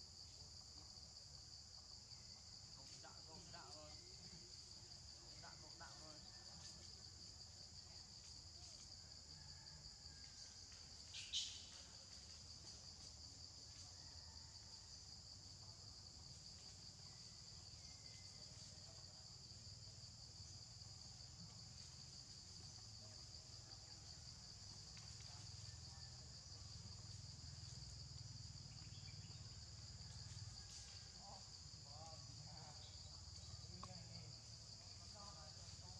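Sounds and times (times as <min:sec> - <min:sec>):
forest insects chorus: 0:00.0 - 0:35.9.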